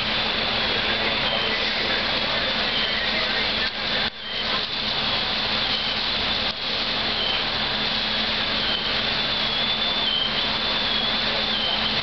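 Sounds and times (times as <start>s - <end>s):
fire engine pump roar: 0.0s - 12.0s.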